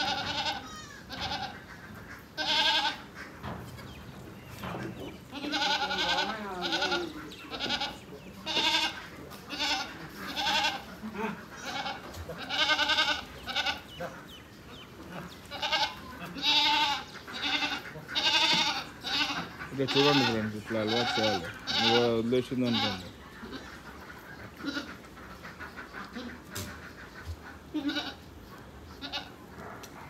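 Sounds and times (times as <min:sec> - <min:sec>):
goats bleating: 0:00.0 - 0:03.6, 0:04.7 - 0:14.3, 0:15.0 - 0:25.1, 0:25.8 - 0:29.4.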